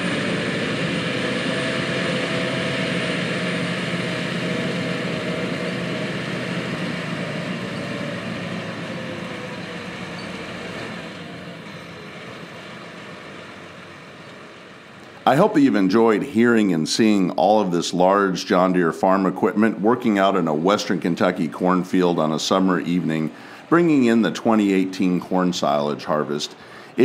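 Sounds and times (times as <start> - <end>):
diesel engine drone: 0.0 - 27.0.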